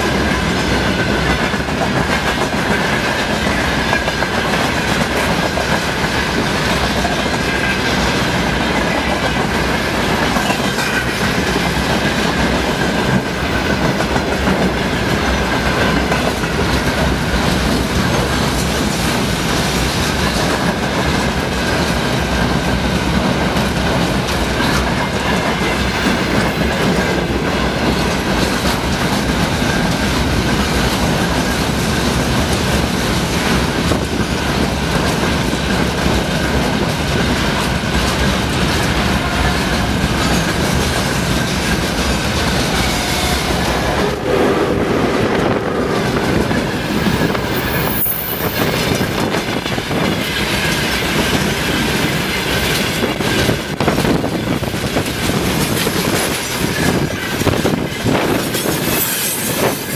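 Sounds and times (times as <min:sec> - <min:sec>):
train wheels rumbling and clattering: 0:00.0 - 0:59.9.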